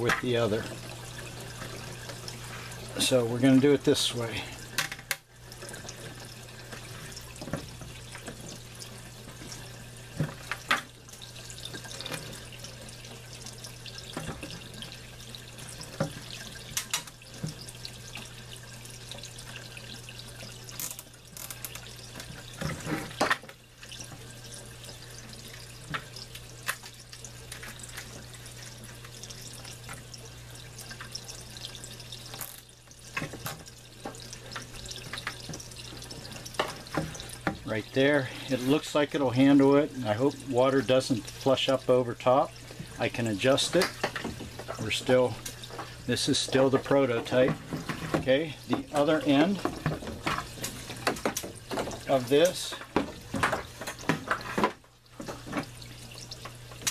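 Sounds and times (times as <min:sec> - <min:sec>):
running water into tank: 0:00.0 - 0:56.9.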